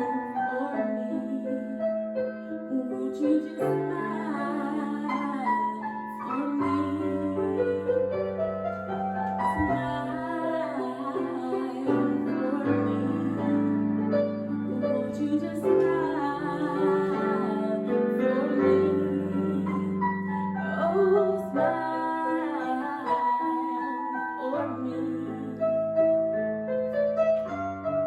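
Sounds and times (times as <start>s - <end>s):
woman singing: 0.0s - 8.4s, 9.4s - 26.0s
piano: 0.0s - 28.0s.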